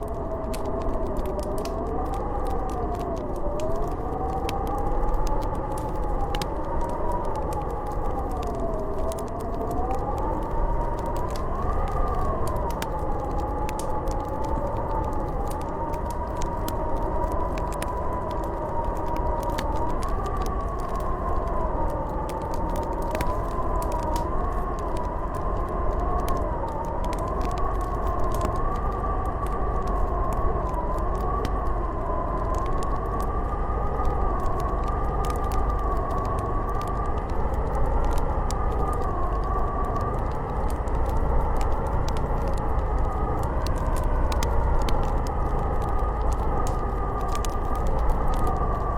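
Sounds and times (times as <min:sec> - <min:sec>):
wind howling: 0:00.0 - 0:48.9
wood fire crackling: 0:00.0 - 0:48.9.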